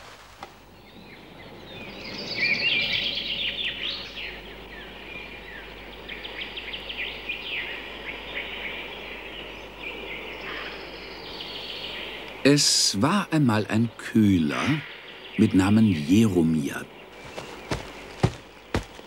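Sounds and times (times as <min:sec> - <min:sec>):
steady soft hiss: 0:00.0 - 0:15.4
birds chirping and trilling: 0:00.6 - 0:19.0.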